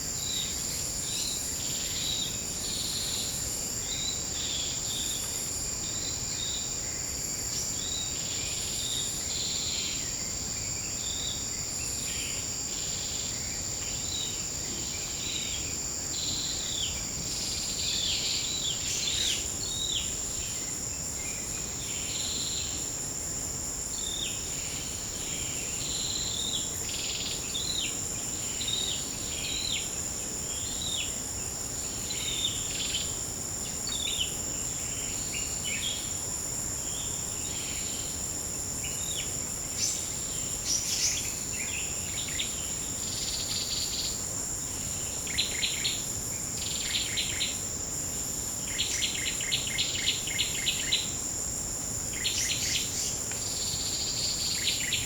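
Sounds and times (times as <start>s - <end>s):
insect buzz: 0.0s - 55.0s.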